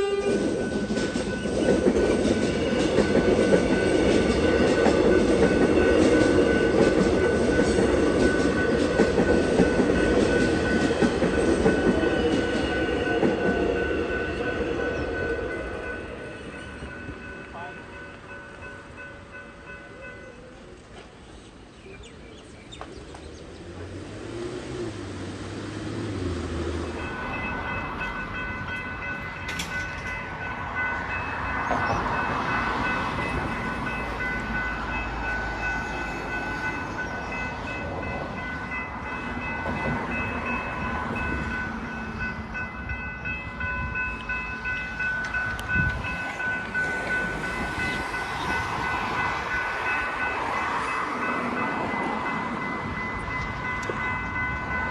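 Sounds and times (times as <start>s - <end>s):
crossing warning bells ringing: 0.0s - 22.6s, 25.8s - 54.9s
train rumbling: 0.0s - 54.9s.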